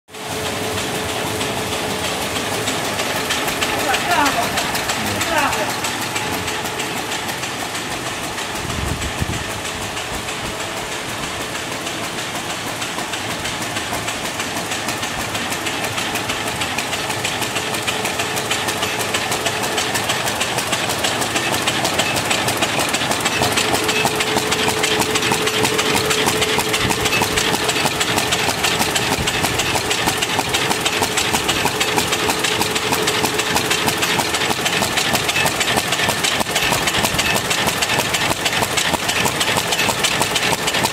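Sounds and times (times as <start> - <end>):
machine clattering and ticking: 0.2 - 40.9.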